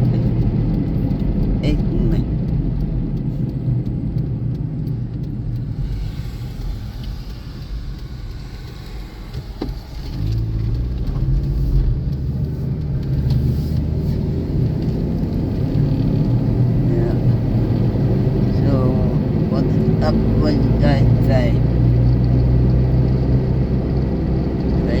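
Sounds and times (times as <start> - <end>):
car interior road noise: 0.0 - 25.0.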